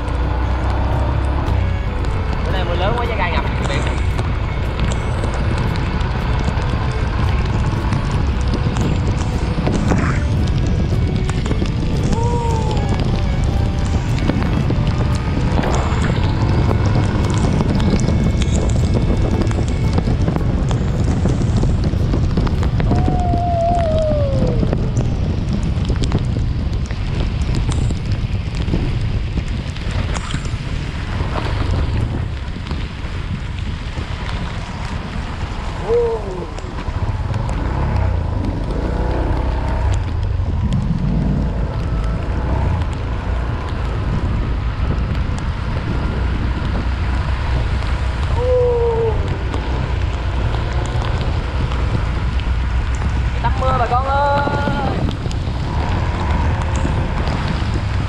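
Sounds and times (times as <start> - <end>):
rain hiss on wet road: 0.0 - 58.0
wind buffeting microphone: 0.0 - 58.0.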